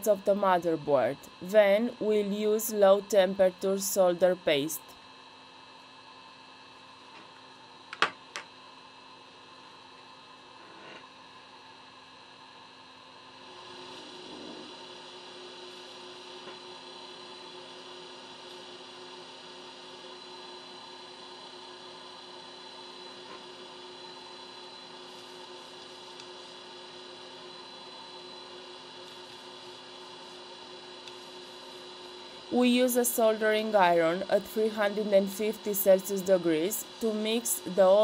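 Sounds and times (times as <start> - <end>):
electrical hum over hiss: 0.0 - 38.0.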